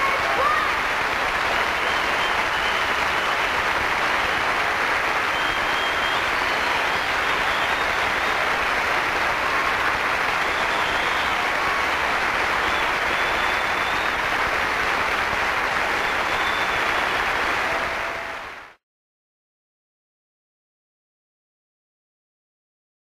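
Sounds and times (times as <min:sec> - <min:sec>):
large audience applauding: 0:00.0 - 0:18.8.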